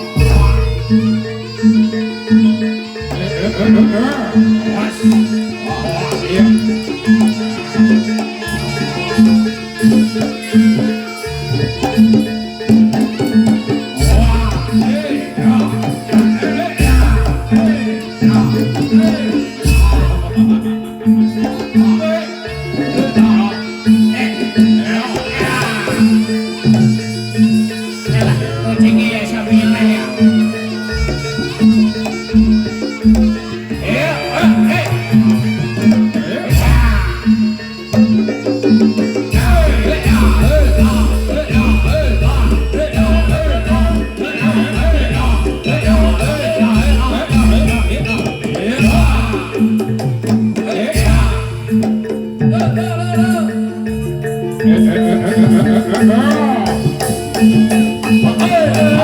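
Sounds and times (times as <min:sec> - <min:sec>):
drums and pitched percussion: 0:00.0 - 0:59.0
melodic lines: 0:00.0 - 0:59.0.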